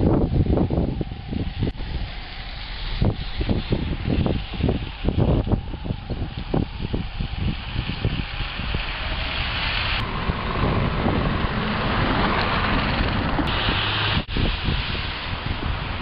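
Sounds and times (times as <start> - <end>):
blizzard wind rushing: 0.0 - 16.0
passing street traffic: 0.0 - 16.0.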